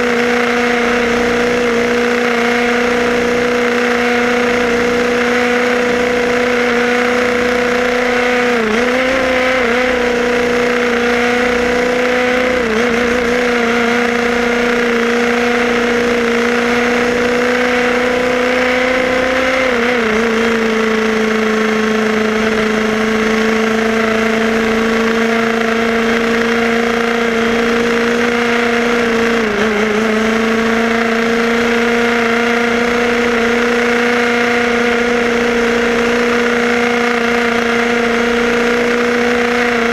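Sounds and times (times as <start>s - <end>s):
two-stroke engine running high: 0.0s - 39.9s.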